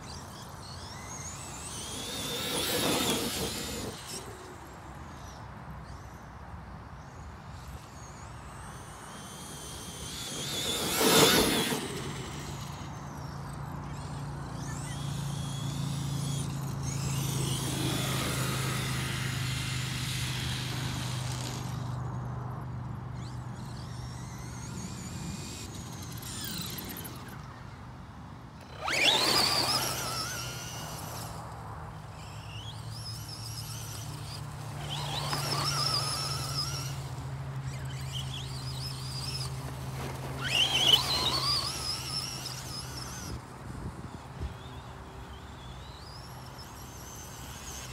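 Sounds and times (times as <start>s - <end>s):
electric motor whining: 0.0s - 6.0s, 7.6s - 22.2s, 28.6s - 47.9s.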